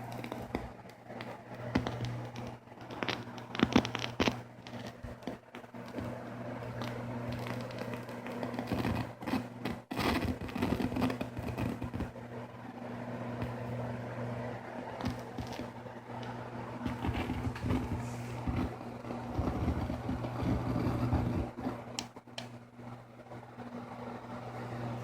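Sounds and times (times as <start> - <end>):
electrical hum: 0.0 - 25.0
speaker crackling static: 0.0 - 25.0.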